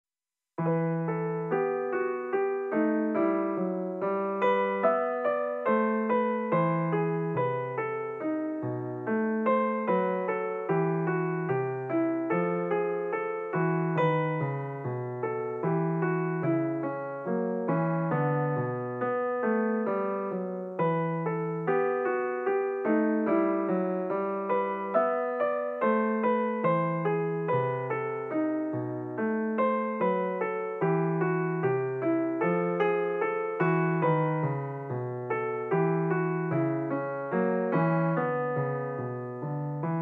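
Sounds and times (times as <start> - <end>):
piano-like keyboard music: 0.6 - 40.0.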